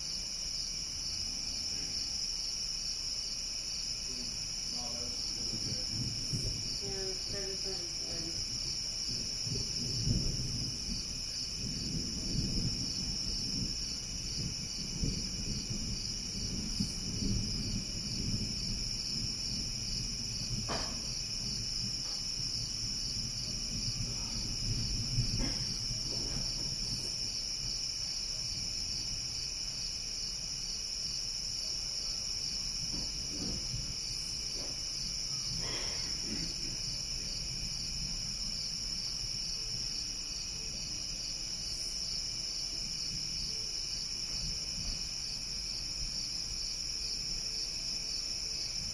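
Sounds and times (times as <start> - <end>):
night insects trilling: 0.0 - 48.9
distant thunder rumbling: 4.0 - 30.6, 31.6 - 48.9.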